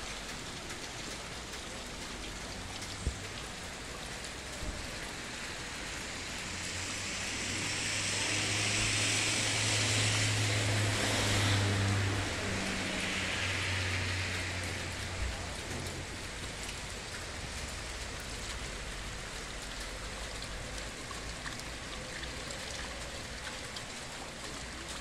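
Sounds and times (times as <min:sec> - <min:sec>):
heavy rain on the street: 0:00.0 - 0:25.0.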